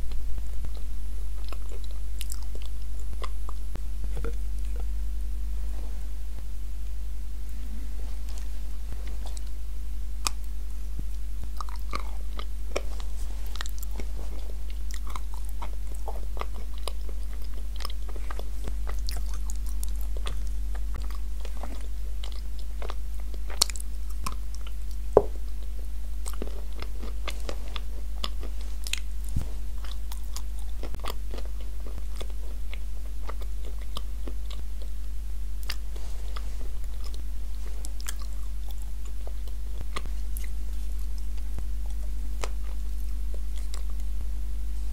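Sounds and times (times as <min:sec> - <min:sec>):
chewing crunchy clay: 0:00.0 - 0:05.0, 0:08.2 - 0:09.6, 0:10.2 - 0:44.2
low electrical hum: 0:00.0 - 0:44.9.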